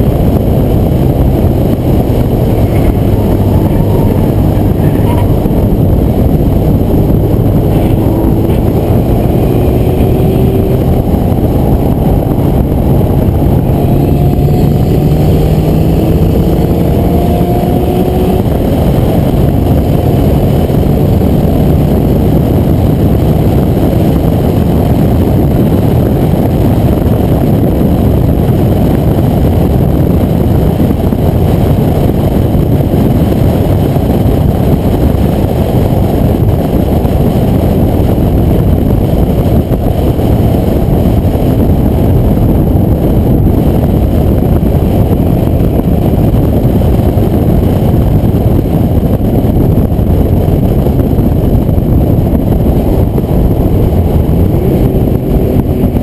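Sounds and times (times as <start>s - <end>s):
car engine accelerating hard: 0.0s - 56.0s
loud rush of noise: 0.0s - 56.0s.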